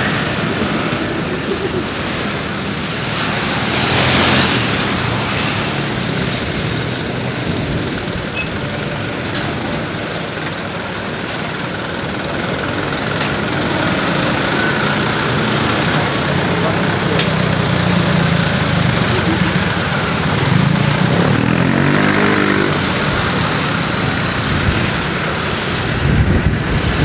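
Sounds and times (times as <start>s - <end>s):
broad rushing noise: 0.0s - 9.0s, 9.9s - 27.0s.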